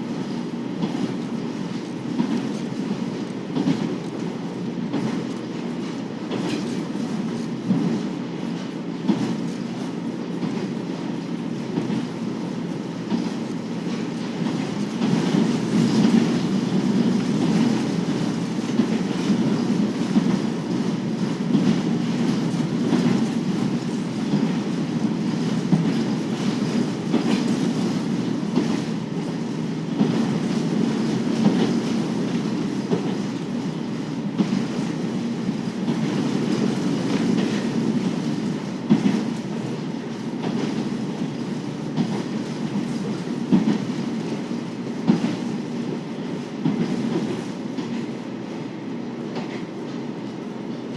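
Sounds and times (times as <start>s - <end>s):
railcar engine and wheels rumbling: 0.0s - 50.9s.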